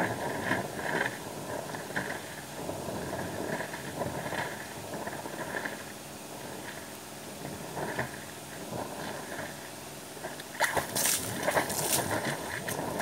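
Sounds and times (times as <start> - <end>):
air and water sputtering from pipe: 0.0 - 13.0.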